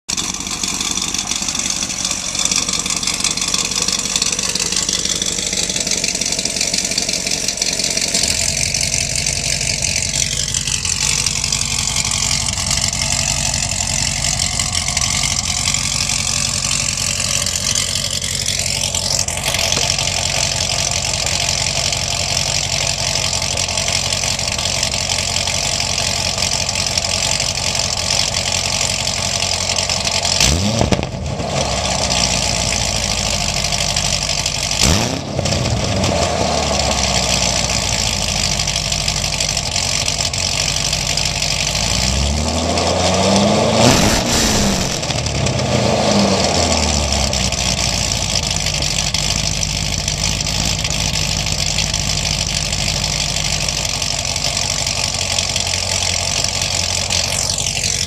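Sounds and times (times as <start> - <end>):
car engine idling loud: 0.1 - 58.0.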